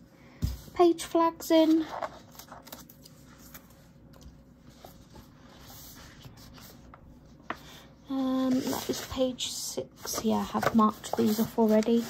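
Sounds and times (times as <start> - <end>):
book pages rustling: 1.5 - 12.0.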